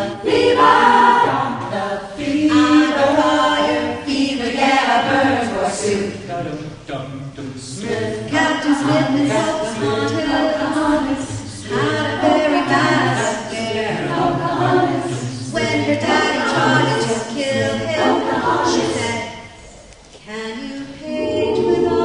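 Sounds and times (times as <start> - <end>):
a cappella choir singing: 0.0 - 22.0.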